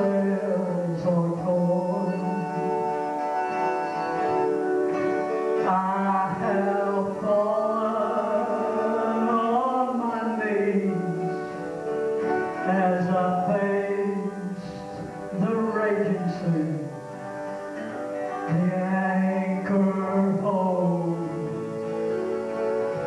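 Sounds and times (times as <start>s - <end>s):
harmonica gospel melody: 0.0s - 23.0s.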